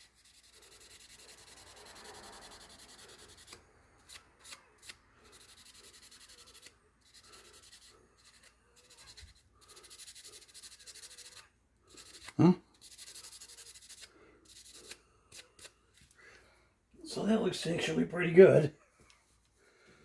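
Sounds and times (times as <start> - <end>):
faint scrubbing on steel blade: 0.0 - 16.1.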